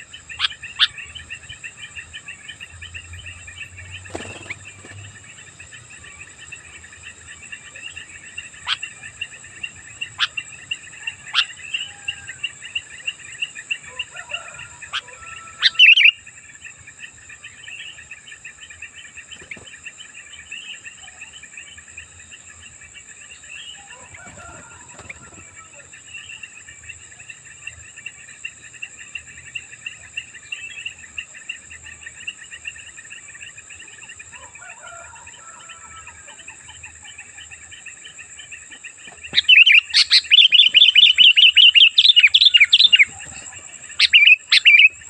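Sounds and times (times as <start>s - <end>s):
bulbuls chattering: 0.0s - 45.0s.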